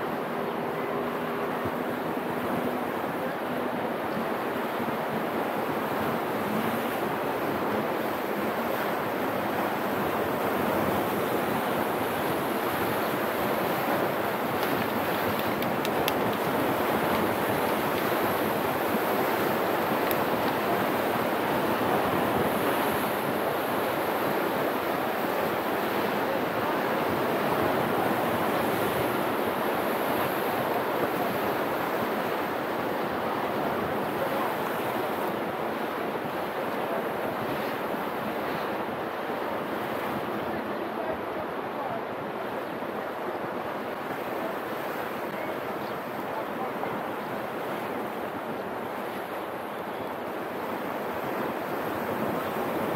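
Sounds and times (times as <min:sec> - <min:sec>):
sea surf washing on concrete: 0:00.0 - 0:52.9.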